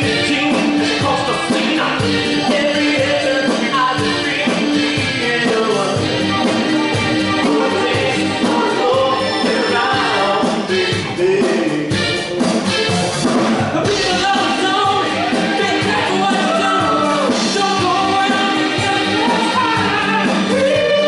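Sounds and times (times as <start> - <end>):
person singing: 0.0 - 12.4, 13.8 - 21.0
live band playing upbeat song: 0.0 - 21.0.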